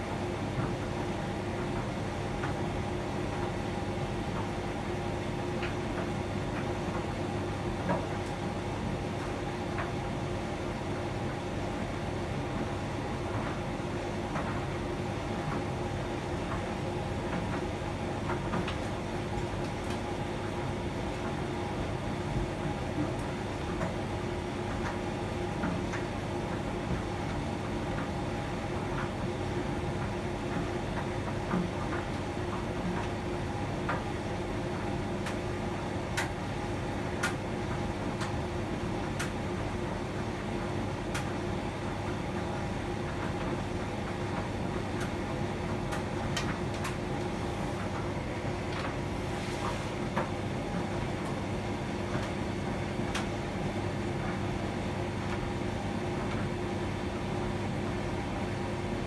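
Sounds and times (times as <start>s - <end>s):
tumble dryer motor and drum hum: 0.0s - 59.0s.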